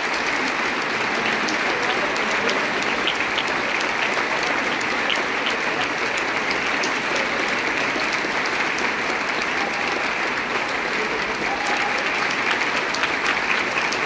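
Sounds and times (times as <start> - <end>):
large audience applauding: 0.0 - 14.0.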